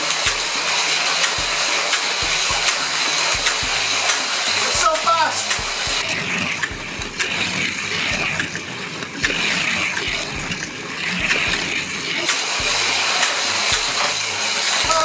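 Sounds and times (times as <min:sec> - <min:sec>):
slot cars clicking on track: 0:00.0 - 0:15.0.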